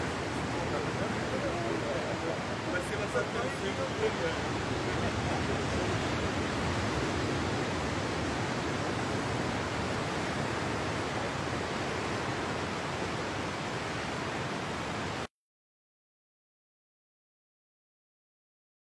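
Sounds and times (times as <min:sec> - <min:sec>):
ocean surf rushing: 0:00.0 - 0:15.3.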